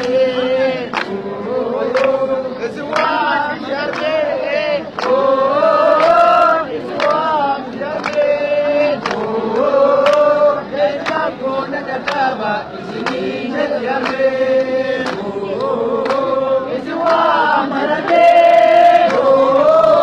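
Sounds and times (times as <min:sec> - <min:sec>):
crowd chanting and singing: 0:00.0 - 0:20.0.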